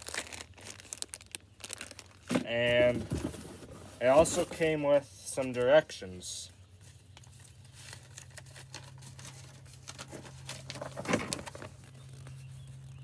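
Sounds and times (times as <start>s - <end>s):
paper rustling and crinkling: 0.0s - 4.8s, 6.8s - 13.0s.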